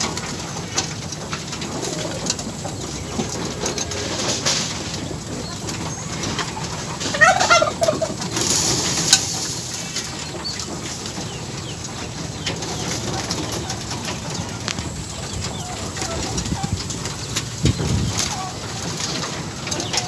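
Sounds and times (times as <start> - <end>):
pigeons cooing: 0.0 - 9.2, 9.8 - 20.0
beaks pecking grain: 0.0 - 20.0.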